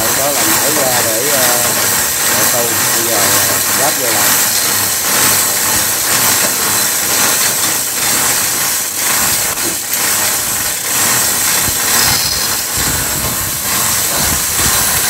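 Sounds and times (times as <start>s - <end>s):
machinery running with hiss: 0.0s - 15.0s.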